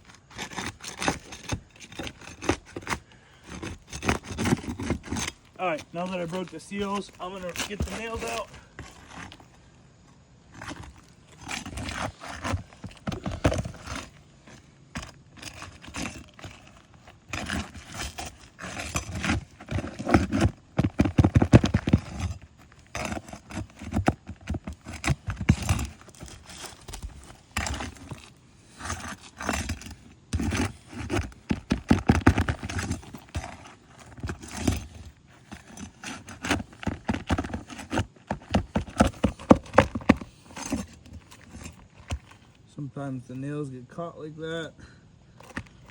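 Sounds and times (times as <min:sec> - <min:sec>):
pry bar scraping on shingles: 0:00.0 - 0:43.8, 0:45.2 - 0:45.9.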